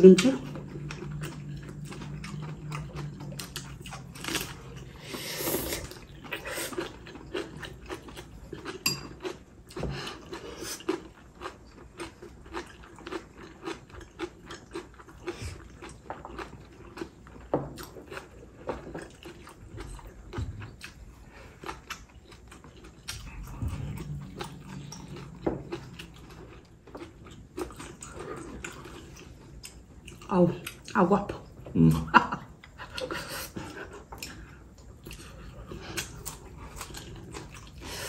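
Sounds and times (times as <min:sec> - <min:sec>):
people chewing crunchy food: 0:00.0 - 0:38.0.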